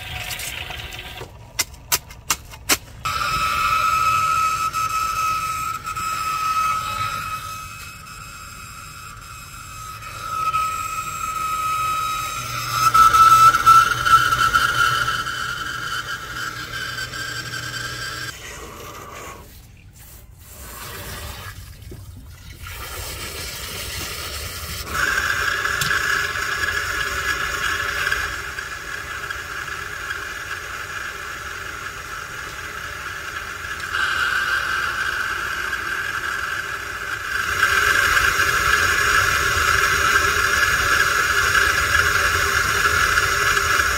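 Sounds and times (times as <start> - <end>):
motor whining: 3.0 - 19.6, 24.6 - 43.9.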